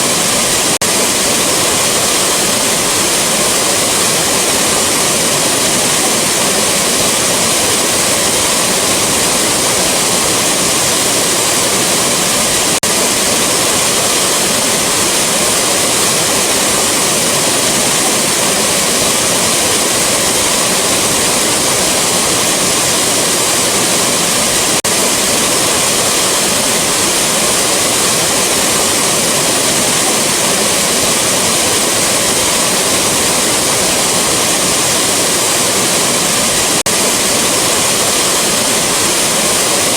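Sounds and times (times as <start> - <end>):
rushing waterfall: 0.0 - 39.9.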